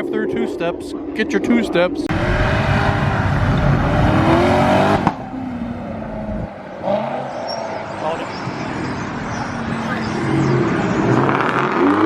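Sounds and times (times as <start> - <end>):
car engine revving: 2.1 - 12.0.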